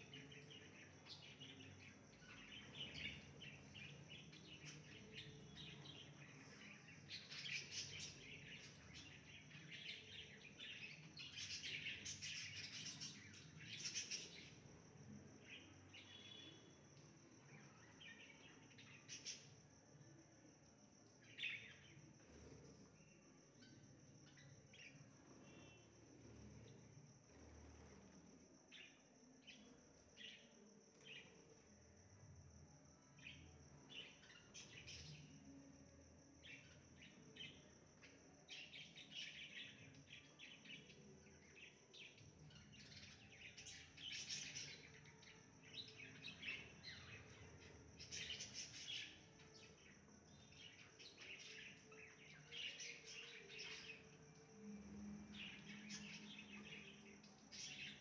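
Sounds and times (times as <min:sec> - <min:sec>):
faint birds chirping: 0:00.0 - 0:58.0
insect trill: 0:00.0 - 0:58.0.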